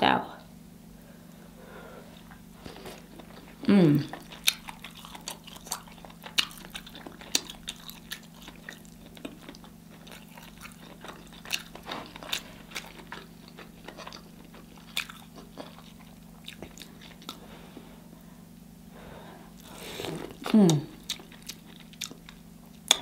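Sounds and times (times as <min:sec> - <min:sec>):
biting and chewing corn: 0:02.2 - 0:17.4, 0:19.6 - 0:23.0.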